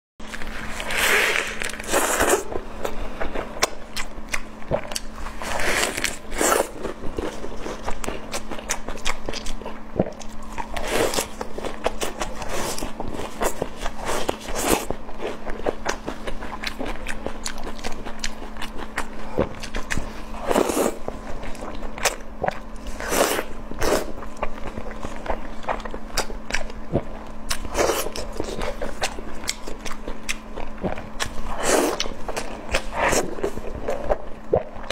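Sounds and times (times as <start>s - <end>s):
steady low hum: 0.2s - 34.9s.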